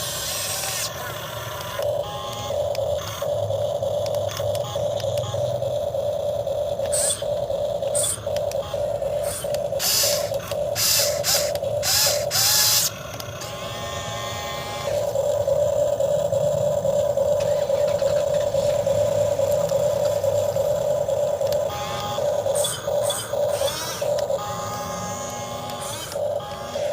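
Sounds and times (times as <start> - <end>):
toy excavator motors whining: 0.0 - 26.9.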